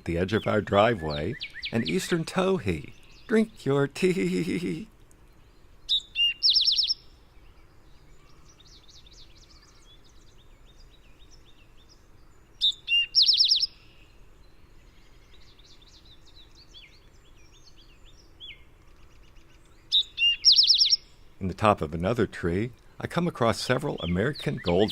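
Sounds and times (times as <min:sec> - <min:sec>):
bird song with trill: 0:00.0 - 0:24.9
faint songs of other birds: 0:00.0 - 0:24.9.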